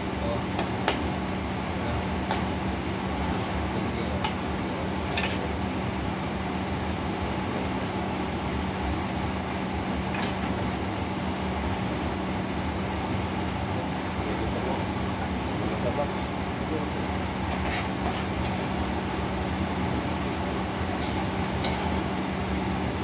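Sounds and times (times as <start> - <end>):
constant low hum: 0.0 - 23.0
kitchen exhaust hood rushing: 0.0 - 23.0.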